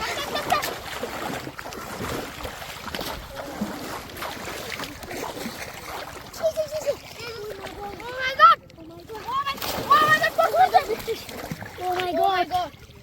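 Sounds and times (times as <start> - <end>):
river water sloshing and splashing: 0.0 - 13.0.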